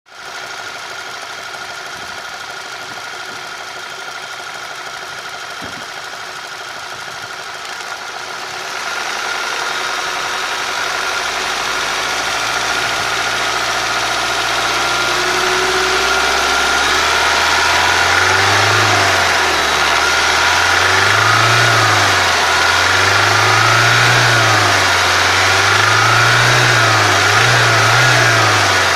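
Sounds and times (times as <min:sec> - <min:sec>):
car engine knocking and revving: 0:00.1 - 0:28.9.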